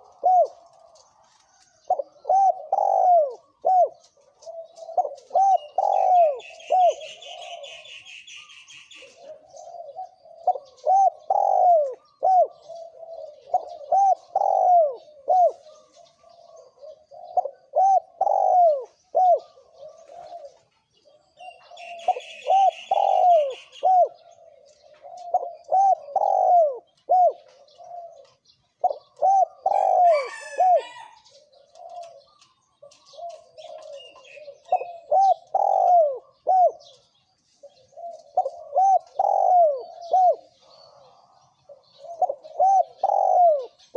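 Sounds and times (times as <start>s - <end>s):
doves cooing: 0.0s - 43.9s.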